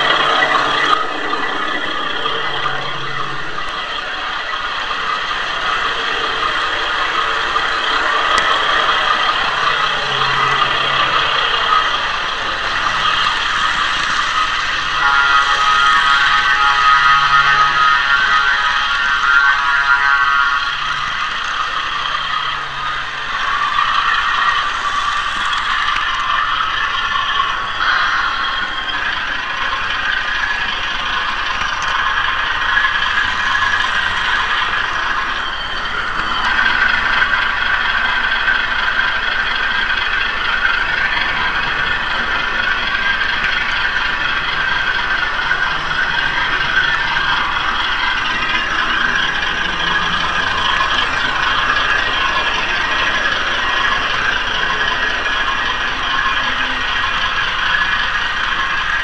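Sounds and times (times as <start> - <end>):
model train clattering on track: 0.0 - 59.0.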